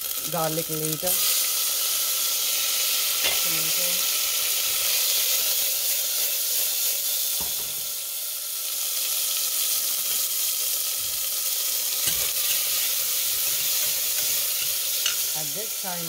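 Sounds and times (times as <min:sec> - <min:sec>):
tomatoes sizzling in oil: 0:00.0 - 0:16.0.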